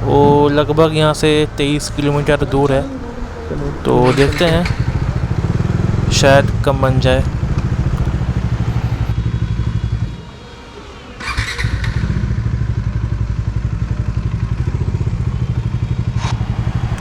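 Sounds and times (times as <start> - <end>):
motorcycle engine idling: 0.0 - 10.0, 11.3 - 17.0.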